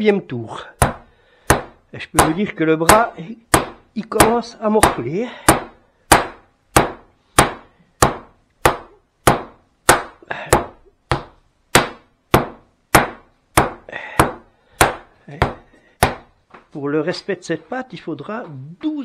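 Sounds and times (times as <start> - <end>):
rolling pin beating dough: 0.7 - 16.3.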